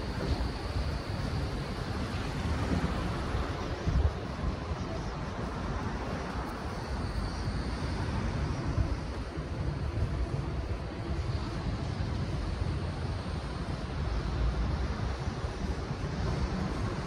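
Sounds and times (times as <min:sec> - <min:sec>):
traffic: 0:00.0 - 0:17.0
wind rumbling on microphone: 0:00.0 - 0:17.0.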